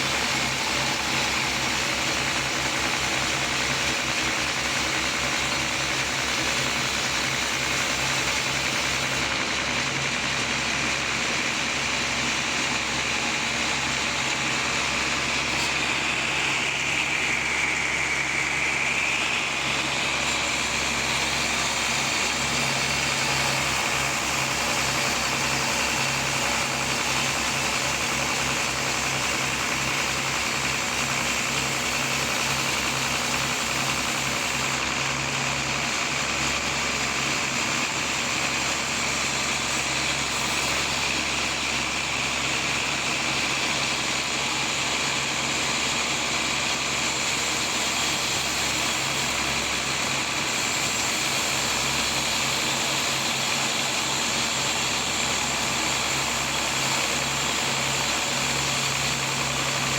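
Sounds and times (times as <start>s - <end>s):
machine engine hum: 0.0s - 59.9s
saw cutting log: 0.0s - 59.9s.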